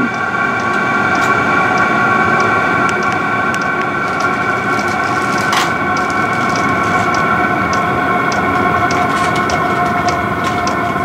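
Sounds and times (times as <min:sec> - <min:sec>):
air heater combustion and blower: 0:00.0 - 0:11.0
high fan whine: 0:00.0 - 0:11.0.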